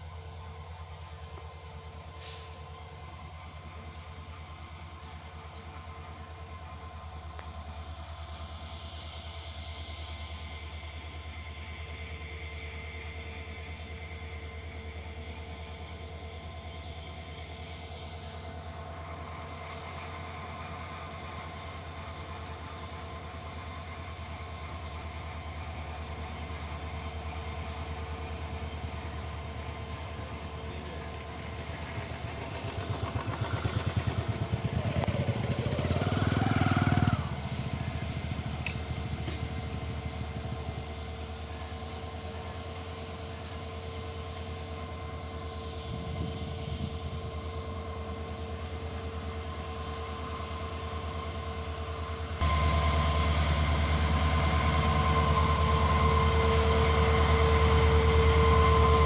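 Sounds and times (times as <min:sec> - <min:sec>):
train mechanical drone: 0:00.0 - 0:59.0.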